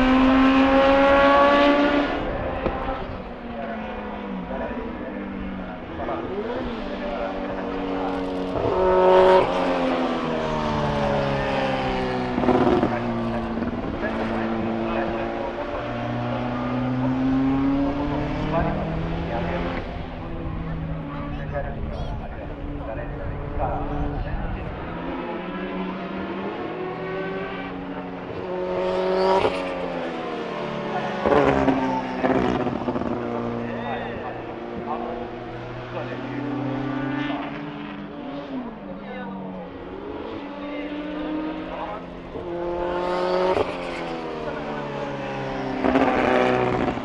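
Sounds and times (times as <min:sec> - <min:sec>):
race car engine running hard: 0:00.0 - 0:47.0.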